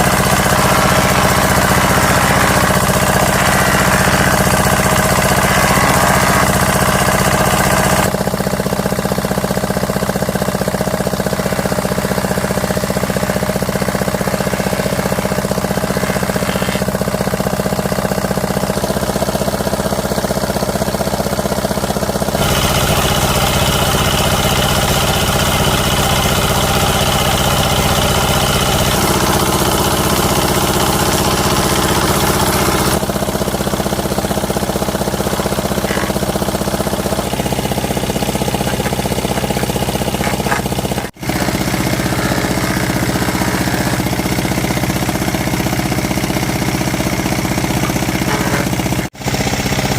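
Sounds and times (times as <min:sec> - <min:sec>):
small engine pulsing hum: 0:00.0 - 0:49.9.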